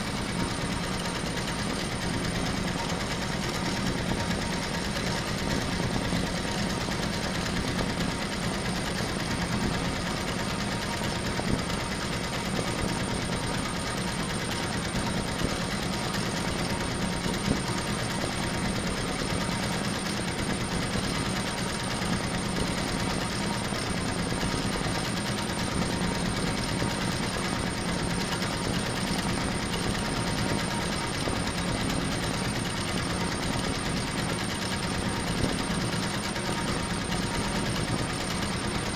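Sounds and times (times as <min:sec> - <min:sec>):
embroidery machine clatter: 0:00.0 - 0:38.9.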